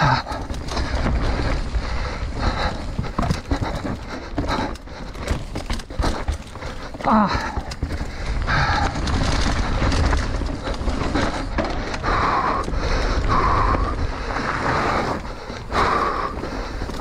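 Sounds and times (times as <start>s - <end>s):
bike rattling over bumps: 0.0s - 17.0s
tyres rumbling on dirt: 0.0s - 17.0s.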